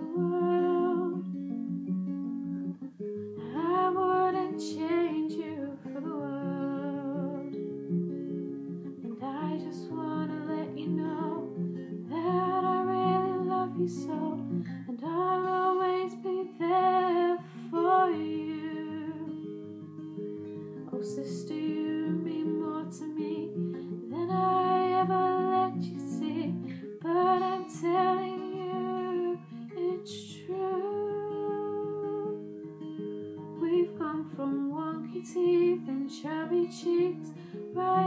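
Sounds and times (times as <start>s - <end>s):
woman singing wordless phrases: 0.0s - 1.4s, 3.4s - 7.6s, 8.9s - 19.4s, 20.9s - 32.5s, 33.6s - 38.0s
guitar chords: 0.0s - 38.0s.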